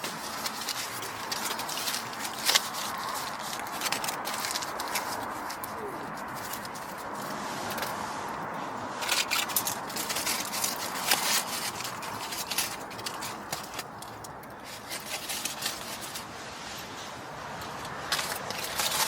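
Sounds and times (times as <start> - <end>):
irregular clicks and crackles: 0.0 - 19.0.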